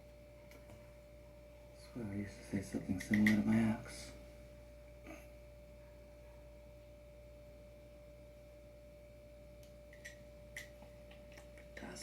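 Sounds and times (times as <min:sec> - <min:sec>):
faint steady tone: 0:00.0 - 0:12.0
low hum: 0:00.0 - 0:12.0.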